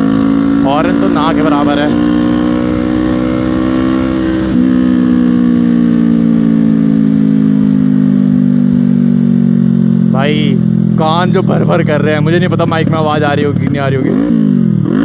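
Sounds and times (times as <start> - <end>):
motorcycle engine at speed: 0.0 - 15.0.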